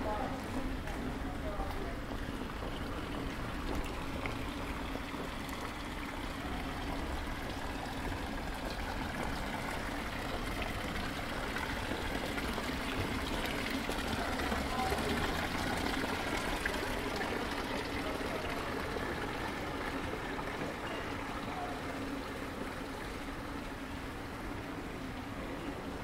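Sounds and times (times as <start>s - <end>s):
fountain water splashing into basin: 0.0s - 26.0s.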